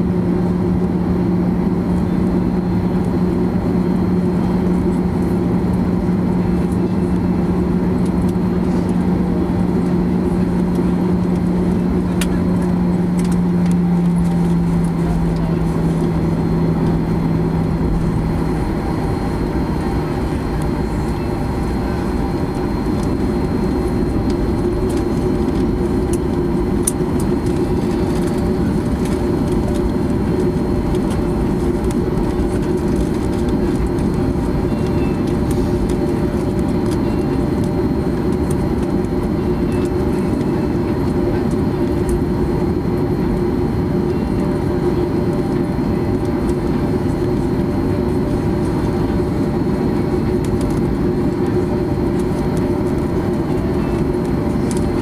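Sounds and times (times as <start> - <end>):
jet engines idling in cabin: 0.0 - 55.0.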